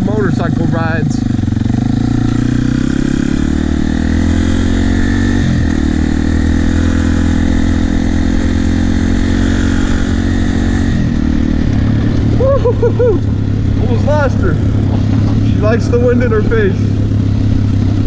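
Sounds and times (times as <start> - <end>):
dirt bike engine riding: 0.0 - 18.0.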